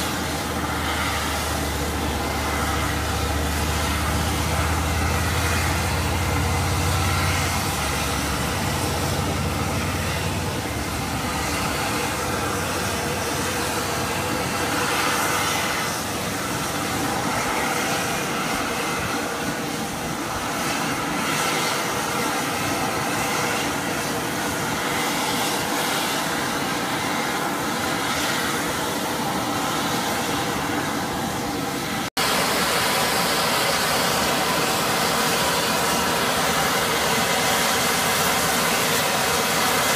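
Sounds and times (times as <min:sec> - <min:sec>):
steam vent hissing and rushing: 0:00.0 - 0:39.9.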